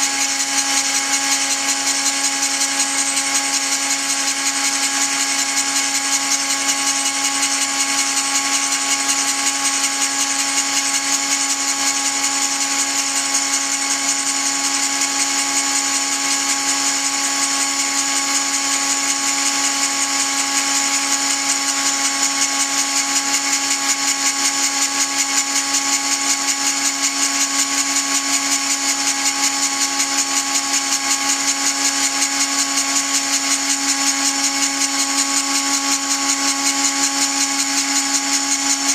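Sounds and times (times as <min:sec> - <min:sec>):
rotary tool grinding whine: 0:00.0 - 0:38.9.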